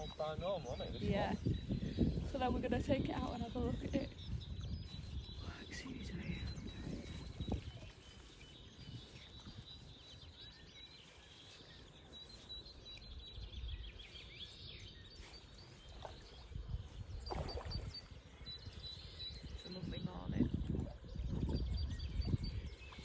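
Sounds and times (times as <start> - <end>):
small birds chirping: 0.0 - 23.0
wind rumble on microphone: 0.0 - 23.0.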